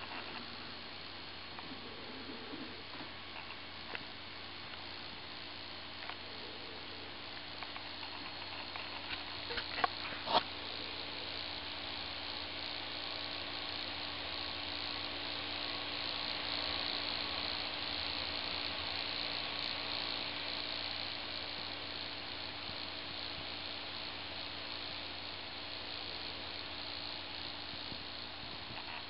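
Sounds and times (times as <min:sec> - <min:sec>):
laptop cooling fan whirring: 0:00.0 - 0:29.0.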